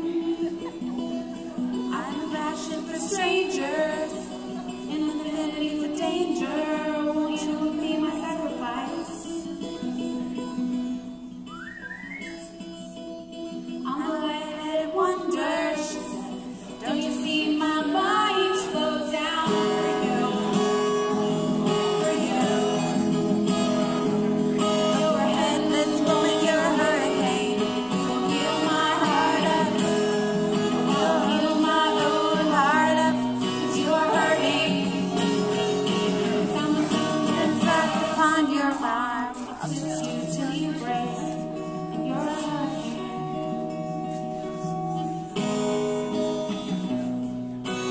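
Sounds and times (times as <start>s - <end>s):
woman singing: 0.0s - 10.0s, 13.7s - 23.3s, 24.6s - 43.8s
strummed acoustic guitar: 0.0s - 47.9s.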